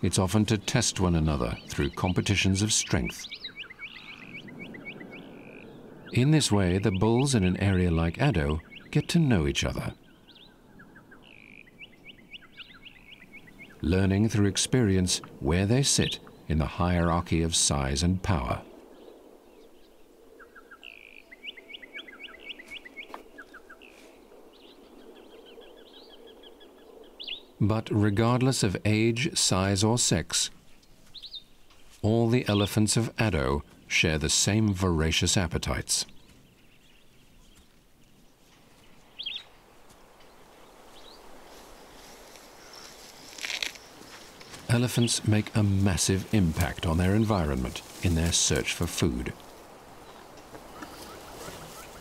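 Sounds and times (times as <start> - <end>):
birds chirping faintly: 0.0 - 52.0.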